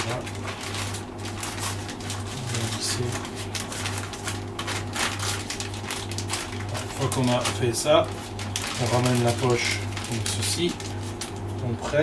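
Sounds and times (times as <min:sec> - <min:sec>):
plastic bag crinkling: 0:00.0 - 0:12.0
steady low hum: 0:00.0 - 0:12.0.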